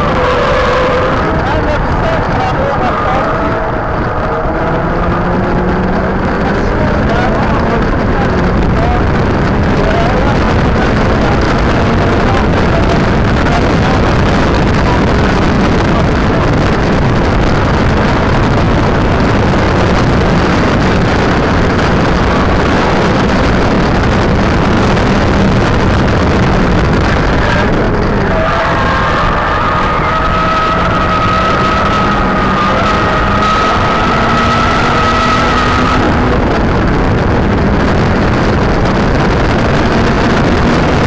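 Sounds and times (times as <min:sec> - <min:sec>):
car engine pulling hard: 0:00.0 - 0:41.0
road and wind noise: 0:00.0 - 0:41.0.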